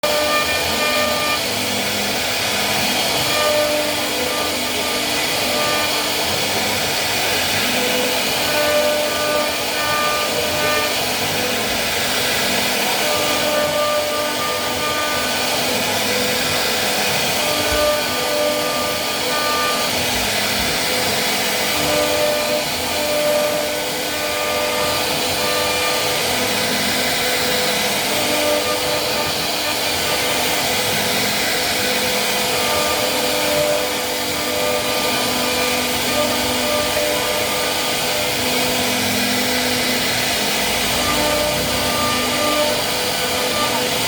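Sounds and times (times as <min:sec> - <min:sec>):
wood router carving wood: 0:00.0 - 0:44.0.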